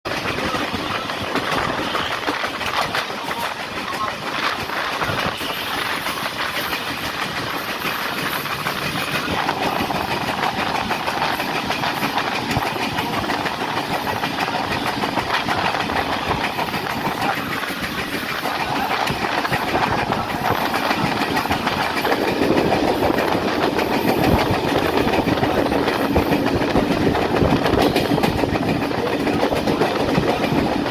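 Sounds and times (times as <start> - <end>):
train wheels rumbling on rails: 0.0 - 30.9
clickety-clack over rail joints: 0.1 - 30.9.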